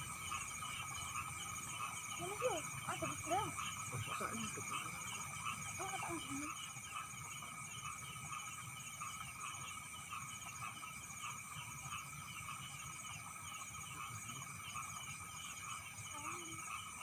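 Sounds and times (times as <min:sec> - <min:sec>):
frogs calling: 0:00.0 - 0:17.0
insects trilling: 0:00.0 - 0:17.0.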